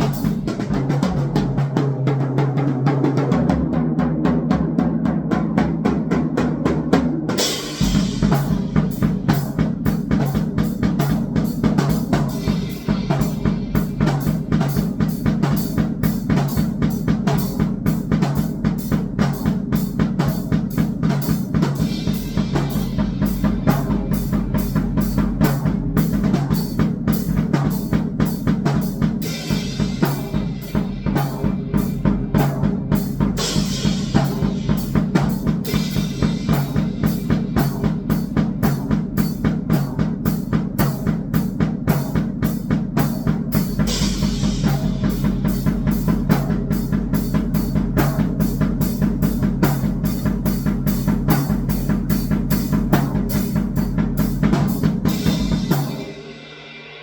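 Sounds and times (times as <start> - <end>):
fast dense drumming: 0.0 - 57.0.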